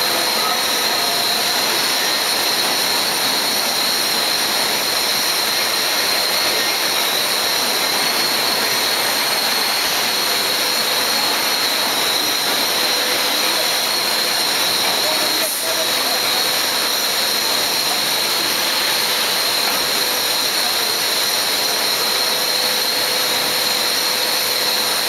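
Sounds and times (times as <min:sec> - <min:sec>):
loud steady hiss: 0:00.0 - 0:25.0
thin high whine: 0:00.0 - 0:25.0.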